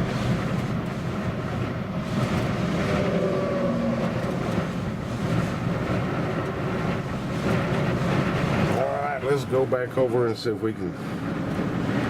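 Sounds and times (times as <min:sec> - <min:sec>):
high wind buffeting microphone: 0:00.0 - 0:09.8, 0:10.9 - 0:12.0.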